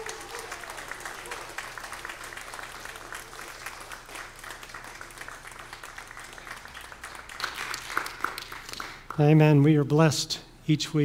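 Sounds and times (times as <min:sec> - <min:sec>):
congregation applauding: 0:00.0 - 0:09.4.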